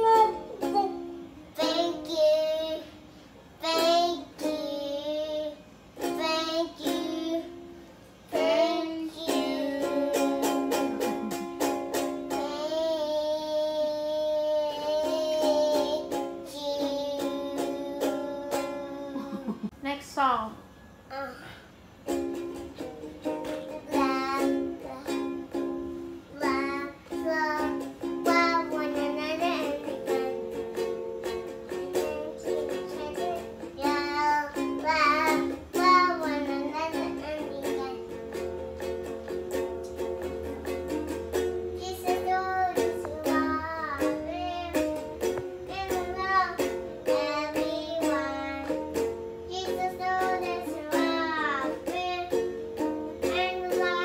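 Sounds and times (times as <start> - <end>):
child singing: 0.0 - 3.0, 3.6 - 7.7, 8.3 - 19.5, 22.1 - 25.7, 26.3 - 38.9, 41.6 - 54.0
ukulele strumming: 0.0 - 13.9, 14.6 - 19.7, 22.0 - 54.0.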